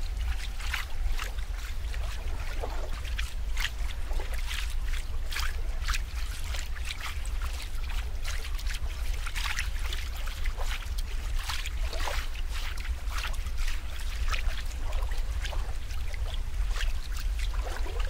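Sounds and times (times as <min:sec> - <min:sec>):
steady low rumble: 0:00.0 - 0:18.0
water trickling and splashing: 0:00.0 - 0:18.0.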